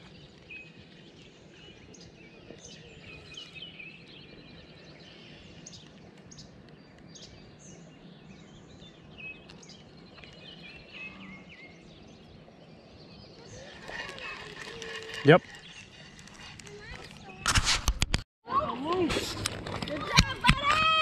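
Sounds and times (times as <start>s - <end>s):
songbirds chirping: 0.0s - 17.4s.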